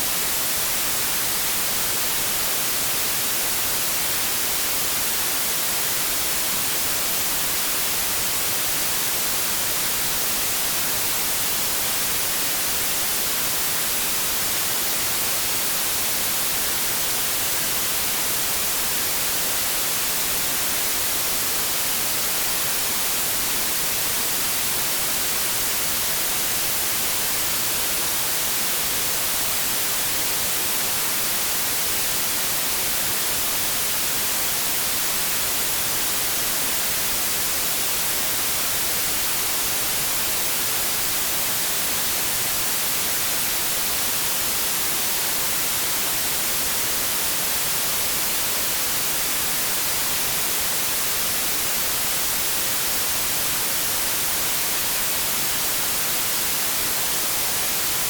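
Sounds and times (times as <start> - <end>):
white noise static hiss: 0.0 - 58.0.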